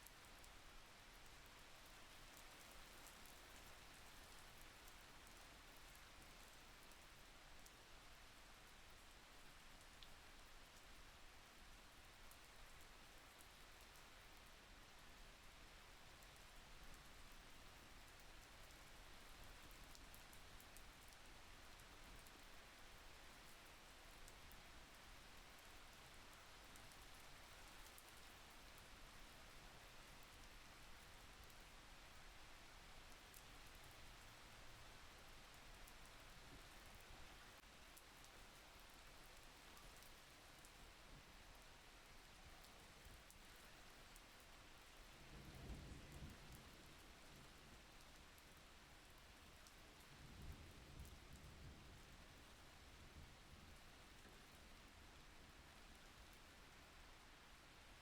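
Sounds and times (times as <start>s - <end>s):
faint steady rain: 0.0s - 58.0s.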